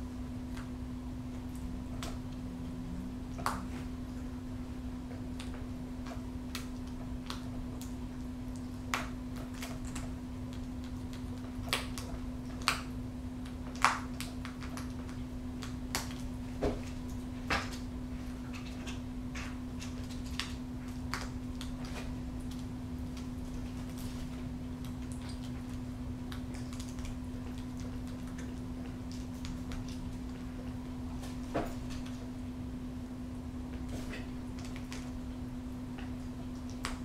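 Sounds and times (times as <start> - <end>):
steady low hum: 0.0 - 37.0
beak tearing meat and bone: 4.9 - 32.4, 33.7 - 37.0.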